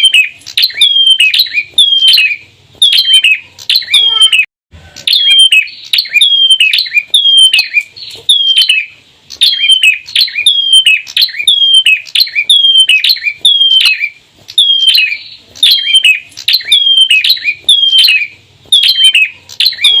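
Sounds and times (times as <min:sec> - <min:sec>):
bird calling sharp notes: 0:00.0 - 0:20.0.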